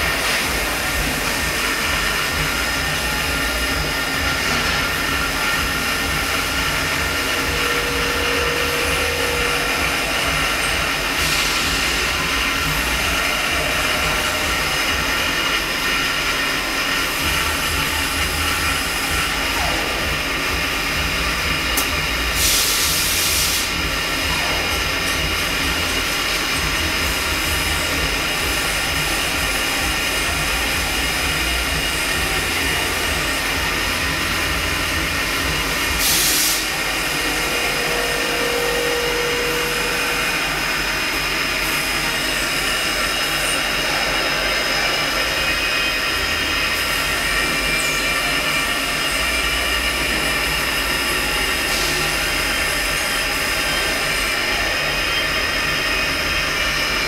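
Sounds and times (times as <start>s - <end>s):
machine hum with whining tones: 0.0s - 57.0s.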